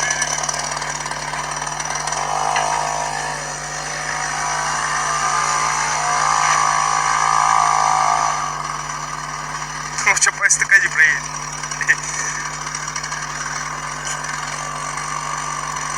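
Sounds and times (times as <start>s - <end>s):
two-stroke engine revving: 0.0s - 15.9s.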